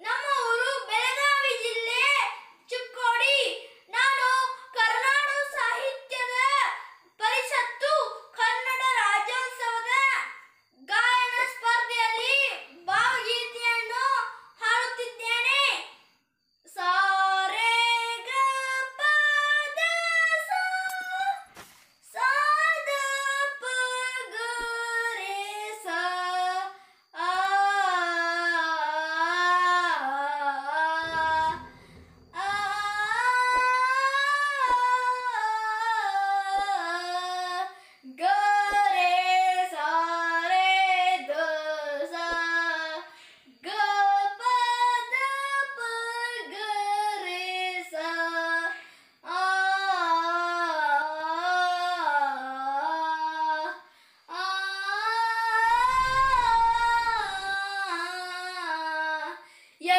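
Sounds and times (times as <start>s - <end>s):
boy singing unaccompanied: 0.0s - 59.9s.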